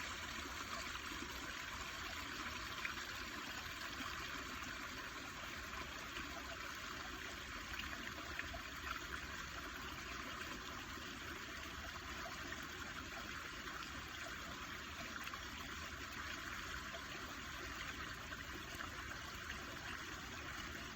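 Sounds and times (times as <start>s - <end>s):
water trickling: 0.0s - 20.9s.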